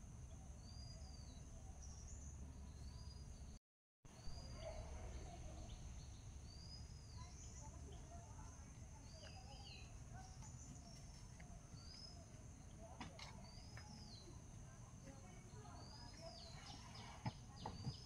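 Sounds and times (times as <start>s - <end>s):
bird chirping: 0.2s - 3.6s, 4.2s - 14.5s, 15.1s - 18.0s.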